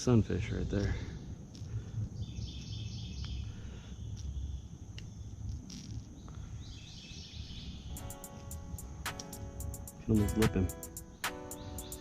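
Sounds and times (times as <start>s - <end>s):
insects chirping: 0.0s - 12.0s
low wind rumble: 0.0s - 12.0s.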